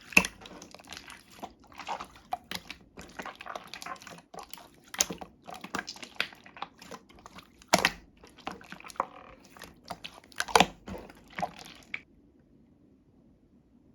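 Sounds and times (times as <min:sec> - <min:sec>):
slime squished by hand: 0:00.0 - 0:12.0.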